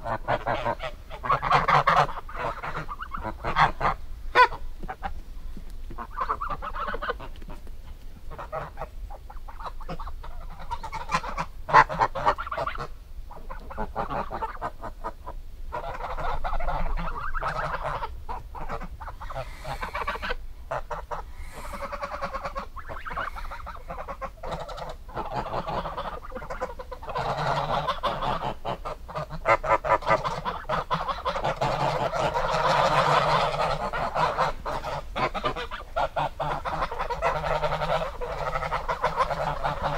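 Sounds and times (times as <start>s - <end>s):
geese honking: 0.0s - 5.2s, 6.0s - 39.9s.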